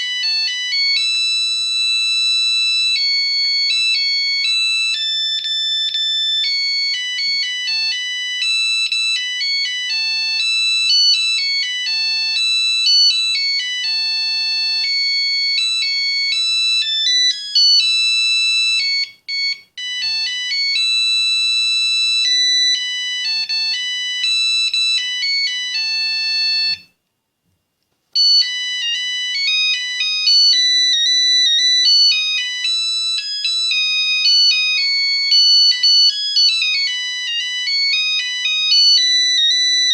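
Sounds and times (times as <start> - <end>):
mobile phone beeping ringtone: 0.0 - 27.0, 28.2 - 39.9.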